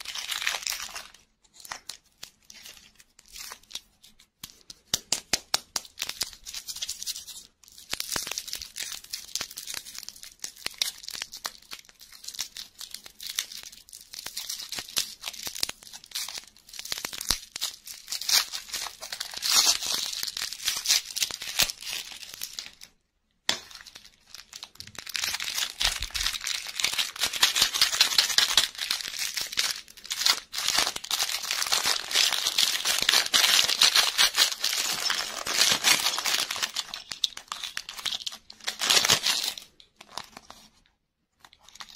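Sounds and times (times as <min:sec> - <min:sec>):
plastic wrapper crinkling: 0:00.0 - 0:41.9.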